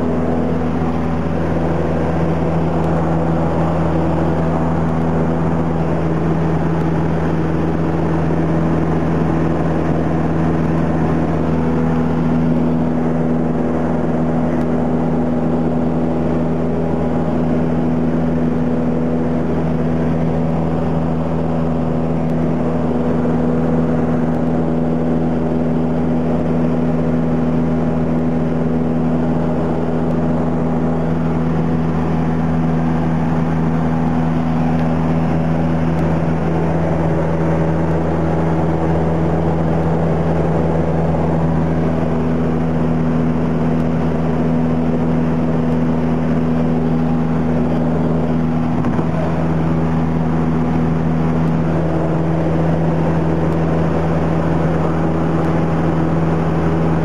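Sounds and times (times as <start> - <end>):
light airplane engine droning: 0.0 - 57.0.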